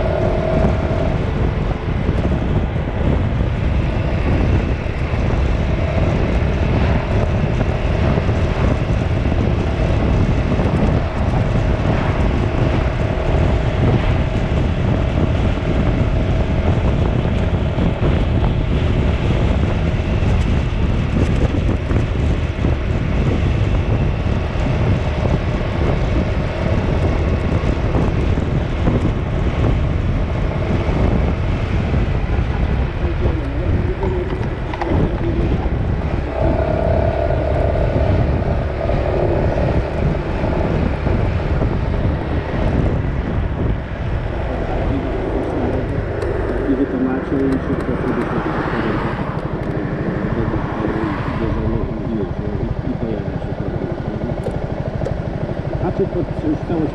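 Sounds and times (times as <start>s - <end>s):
wind rushing on microphone: 0.0s - 56.9s.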